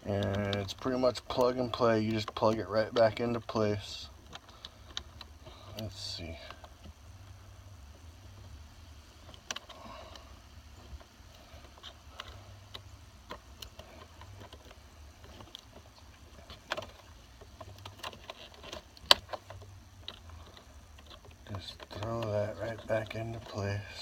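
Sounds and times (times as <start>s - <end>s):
low steady hum: 0.0s - 24.0s
clicks of handling plastic parts: 0.1s - 7.4s, 9.2s - 24.0s.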